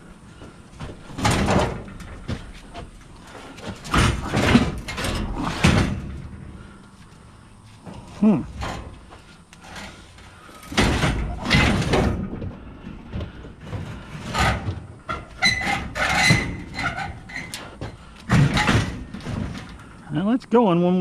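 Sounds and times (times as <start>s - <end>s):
metal junk scraping and clanking: 0.4s - 6.9s, 7.8s - 20.0s.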